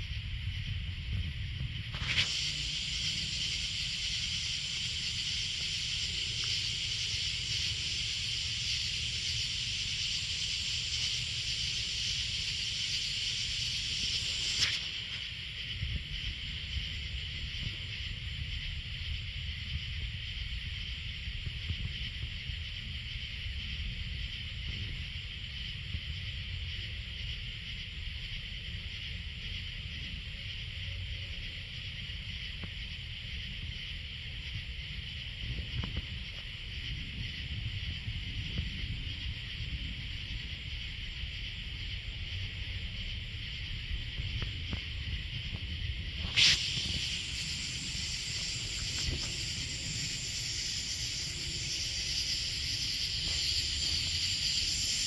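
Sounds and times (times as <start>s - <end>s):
insect chorus buzzing: 0.0s - 55.0s.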